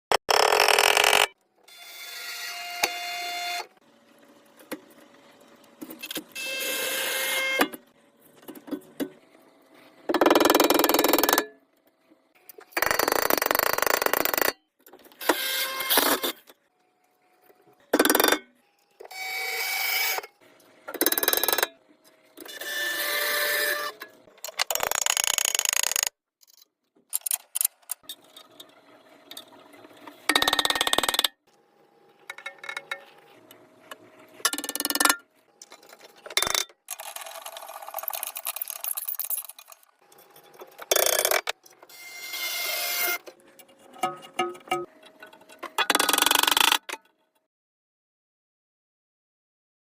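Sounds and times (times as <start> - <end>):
tool and workshop sounds: 0.1 - 47.5.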